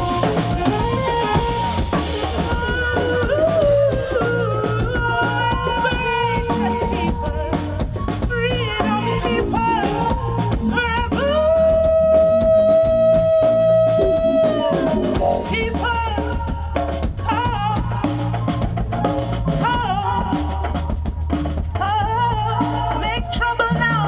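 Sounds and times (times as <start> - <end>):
person singing: 0.0 - 18.5, 19.5 - 21.1
funk rock band playing: 0.0 - 24.0.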